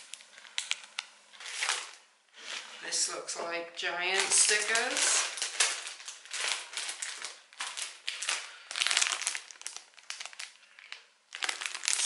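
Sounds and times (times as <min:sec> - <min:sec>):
cellophane plastic crinkling: 0:00.0 - 0:03.1, 0:04.1 - 0:12.0.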